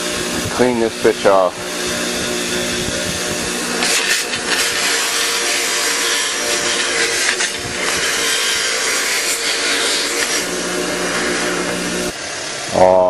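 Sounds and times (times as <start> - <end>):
wire wheel grinding metal: 0.0 - 12.9.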